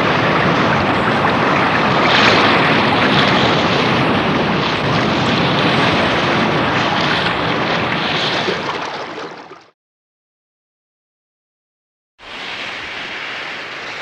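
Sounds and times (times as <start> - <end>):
rushing surging water: 0.0 - 9.7, 12.2 - 14.0.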